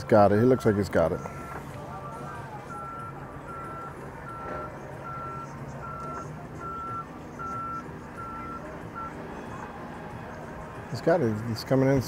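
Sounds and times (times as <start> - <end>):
reversing alarm beeping: 0.0 - 10.1
low engine rumble: 0.0 - 12.0.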